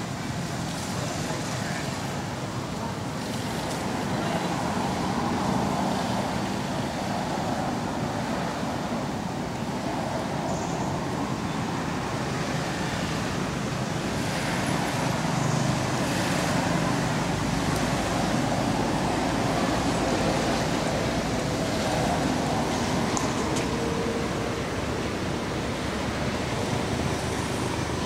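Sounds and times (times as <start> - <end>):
outdoor background rumble: 0.0 - 28.0.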